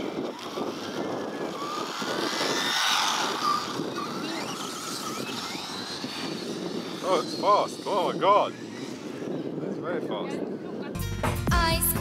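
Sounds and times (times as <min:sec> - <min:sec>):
rc buggy motor whine: 0:00.0 - 0:10.8.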